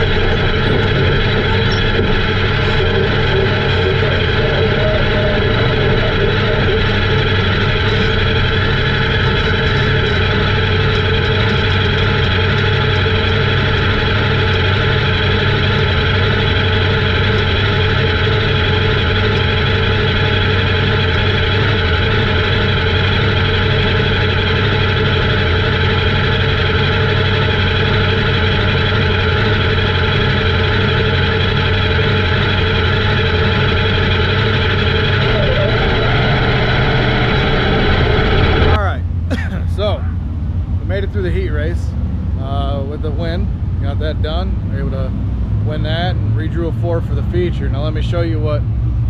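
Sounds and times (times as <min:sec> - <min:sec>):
engine running steadily: 0:00.0 - 0:49.0.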